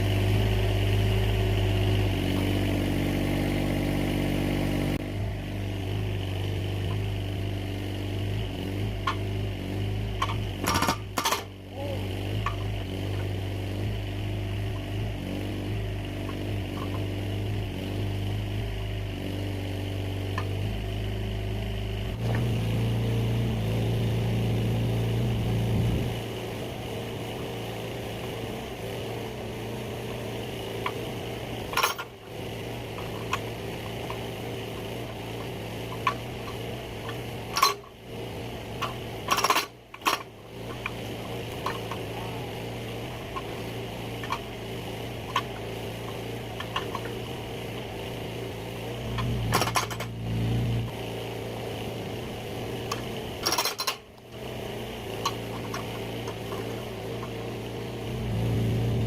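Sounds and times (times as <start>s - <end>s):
excavator engine running: 0.0s - 59.0s.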